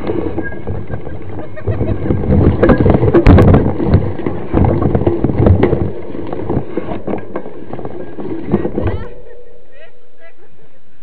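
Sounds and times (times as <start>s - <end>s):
wind noise on microphone: 0.0s - 9.3s
bike rattling over rough trail: 0.0s - 10.0s.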